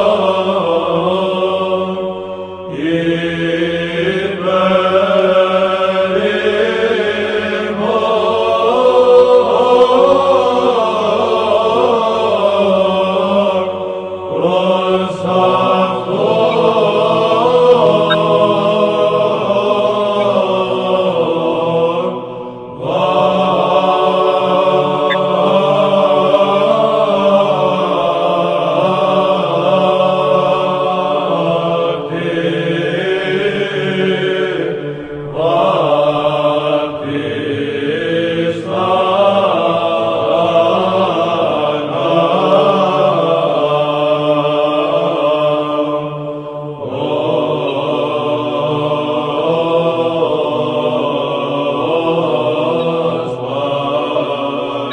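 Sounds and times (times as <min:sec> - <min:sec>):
voices chanting over drone: 0:00.0 - 0:54.9.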